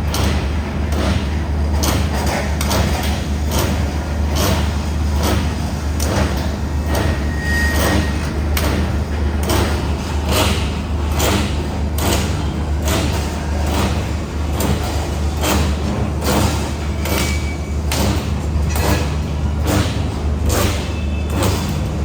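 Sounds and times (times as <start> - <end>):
welding machine electrical hum: 0.0 - 22.0
welding machine sharp clacks: 0.0 - 22.0.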